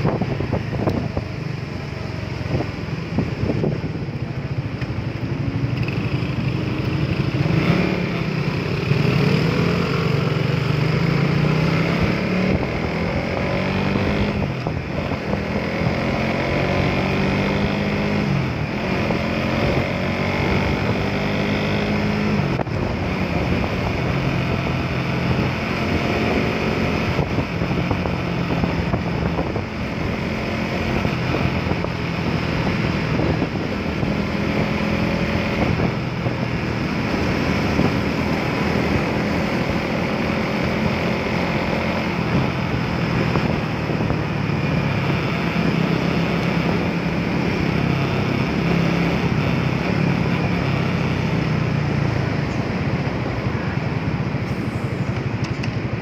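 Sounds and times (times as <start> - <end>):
wind buffeting microphone: 0.0 - 8.2, 11.7 - 54.5
motorcycle engine running: 0.0 - 56.0.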